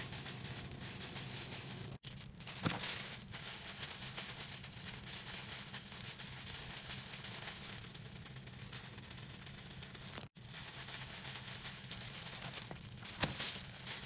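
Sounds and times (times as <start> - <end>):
background hiss: 0.0 - 14.0
plastic gloves crackling: 0.0 - 14.0
rustle: 0.0 - 14.0.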